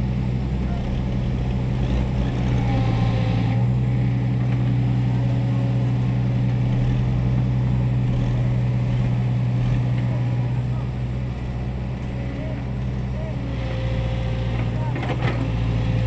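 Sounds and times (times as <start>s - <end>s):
diesel engine running steadily: 0.0s - 16.0s.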